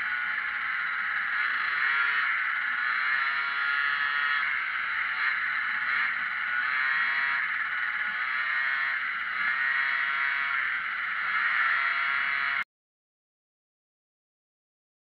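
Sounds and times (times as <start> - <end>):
scooter engine revving: 0.0 - 12.6.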